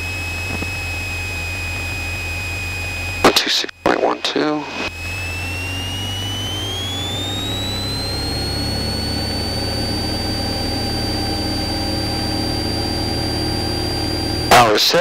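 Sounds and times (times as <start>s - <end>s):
aircraft engine drone: 0.0s - 15.0s
high engine whine: 0.0s - 15.0s.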